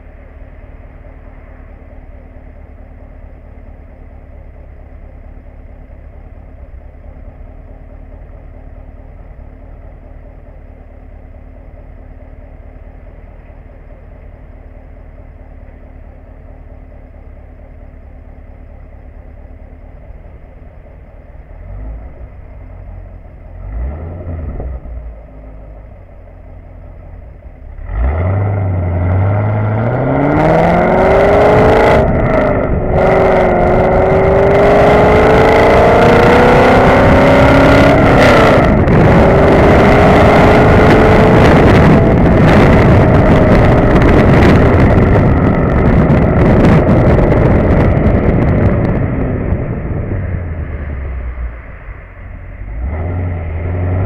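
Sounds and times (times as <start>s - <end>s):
car engine idling: 0.0s - 54.0s
engine revving and pulling away: 0.0s - 54.0s.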